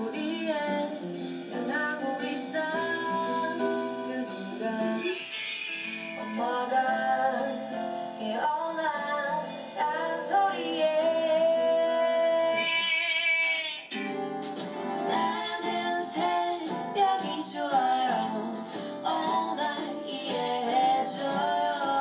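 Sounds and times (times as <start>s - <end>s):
woman singing: 0.0s - 5.3s, 6.2s - 13.9s, 15.1s - 22.0s
guitar: 0.0s - 22.0s.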